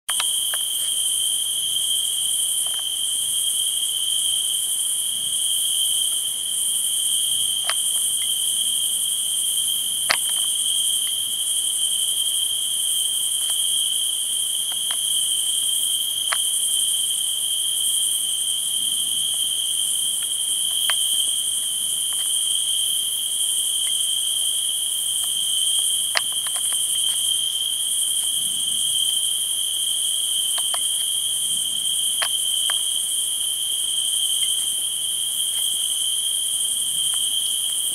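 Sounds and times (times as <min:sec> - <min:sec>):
crickets chirring: 0:00.1 - 0:37.9.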